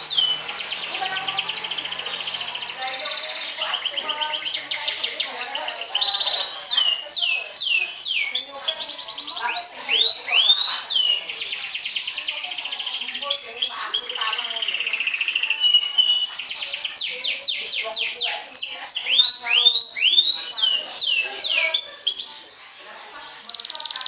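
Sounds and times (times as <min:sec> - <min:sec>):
canary singing: 0:00.0 - 0:24.0.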